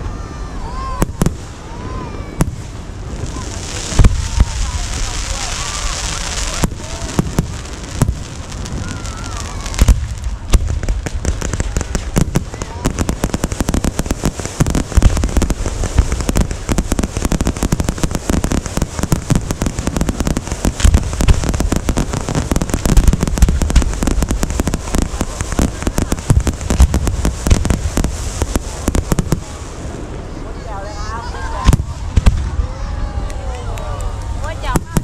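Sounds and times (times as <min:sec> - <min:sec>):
fireworks crackling pops: 0:00.0 - 0:35.0
fireworks deep booms: 0:00.6 - 0:30.4, 0:31.4 - 0:33.2, 0:34.2 - 0:35.0.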